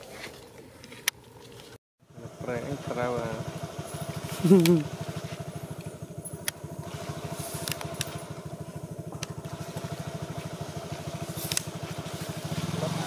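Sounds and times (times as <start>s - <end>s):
small engine idling: 0.1s - 13.0s.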